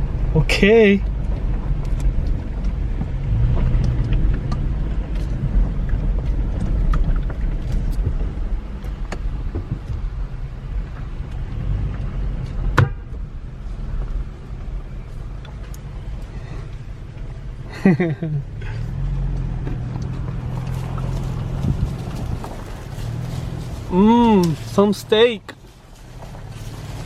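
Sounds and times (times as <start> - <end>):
pickup truck engine and road rumble: 0.0 - 27.0.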